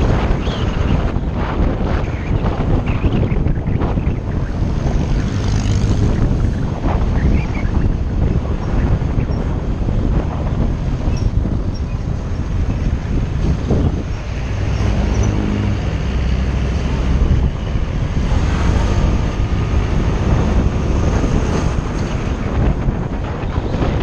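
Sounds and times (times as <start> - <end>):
engine hum: 0.0 - 24.0
vehicle road noise: 0.0 - 24.0
wind buffeting microphone: 0.0 - 24.0.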